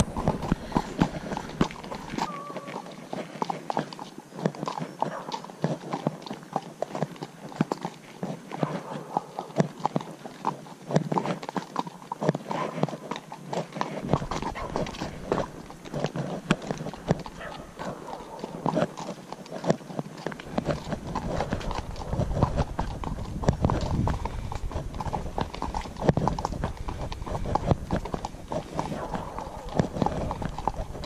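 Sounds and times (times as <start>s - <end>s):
horse hoofbeats on dirt: 0.0s - 31.0s.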